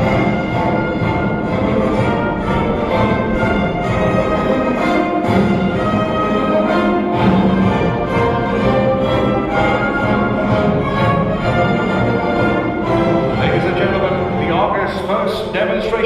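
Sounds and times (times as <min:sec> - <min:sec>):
orchestral music with strings: 0:00.0 - 0:16.0.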